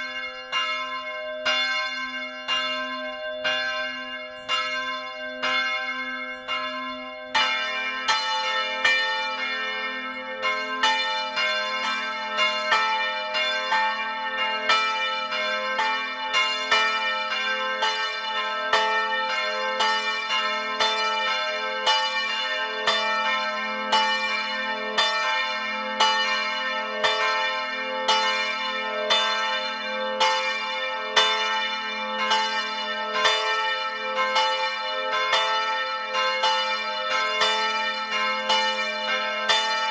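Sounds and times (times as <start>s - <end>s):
church bell ringing: 0.0s - 39.9s
lower church bell ringing: 0.0s - 39.9s.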